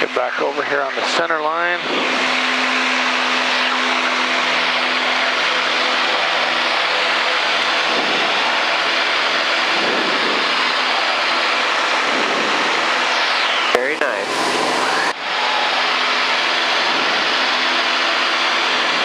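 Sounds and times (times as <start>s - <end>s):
airplane engine drone in cockpit: 0.0s - 19.0s.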